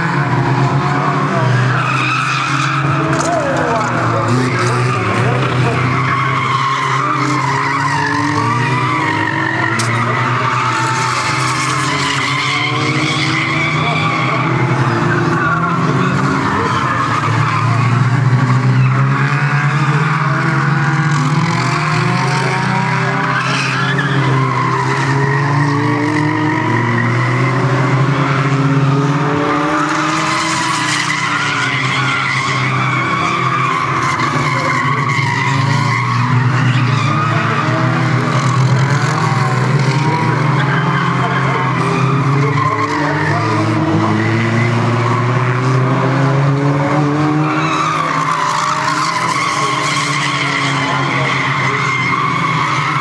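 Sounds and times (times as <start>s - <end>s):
race car engines: 0.0s - 53.0s.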